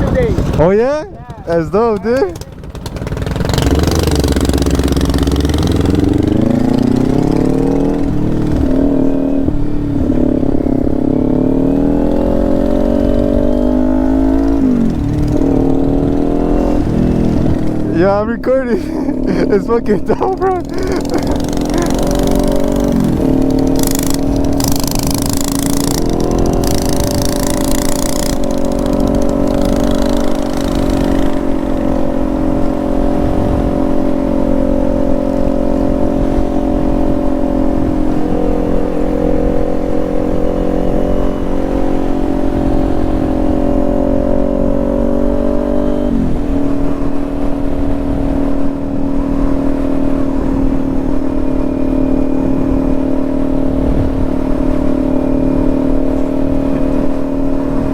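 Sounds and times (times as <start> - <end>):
motorcycle engine running: 0.0 - 57.9
wind on microphone: 0.0 - 57.9.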